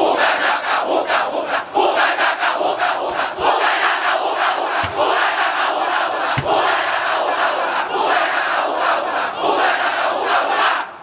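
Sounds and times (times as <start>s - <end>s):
crowd of boys chanting a cheer: 0.0s - 11.0s.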